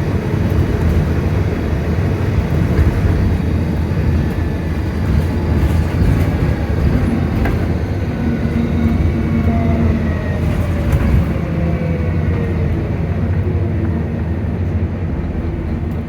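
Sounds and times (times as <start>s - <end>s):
bus diesel engine rumble: 0.0s - 16.0s.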